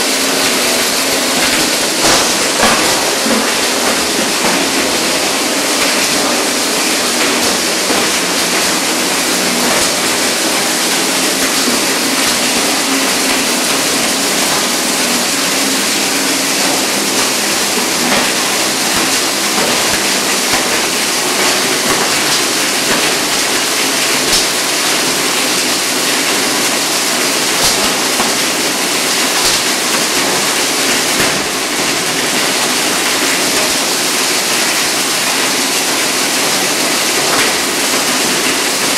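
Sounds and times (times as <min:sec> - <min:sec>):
pipe grinder grinding: 0:00.0 - 0:32.2.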